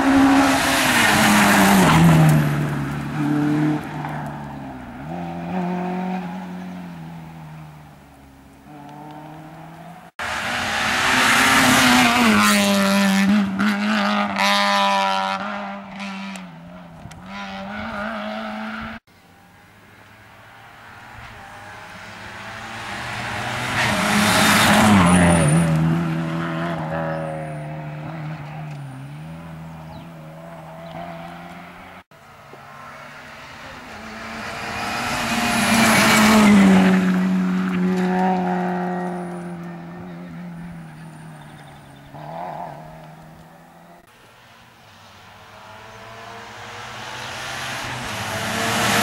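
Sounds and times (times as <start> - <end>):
rally cars racing past: 0.0 - 19.1, 19.9 - 49.0.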